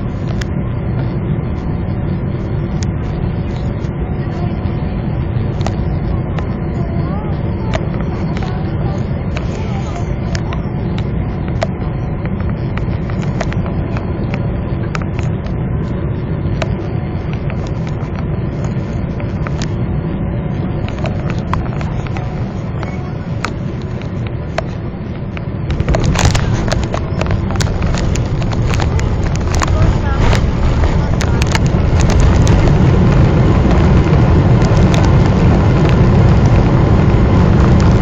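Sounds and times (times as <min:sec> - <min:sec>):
aircraft cabin engine rumble: 0:00.0 - 0:38.0
wheels rolling on runway: 0:00.0 - 0:38.0.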